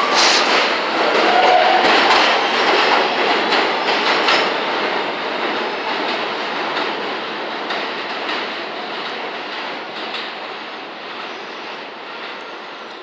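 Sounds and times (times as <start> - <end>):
train wheels clicking over rail joints: 0.0 - 12.5
train running noise: 0.0 - 13.0.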